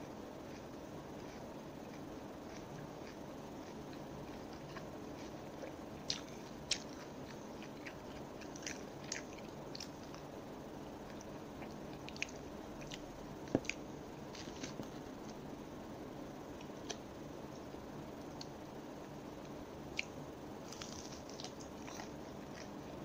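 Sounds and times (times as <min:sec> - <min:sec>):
chewing crispy food: 0:00.4 - 0:15.5, 0:16.6 - 0:23.0.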